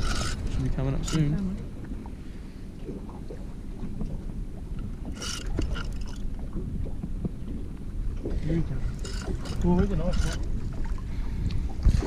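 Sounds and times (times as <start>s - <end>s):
low wind rumble: 0.0s - 12.0s
water noise around boat: 0.0s - 12.0s.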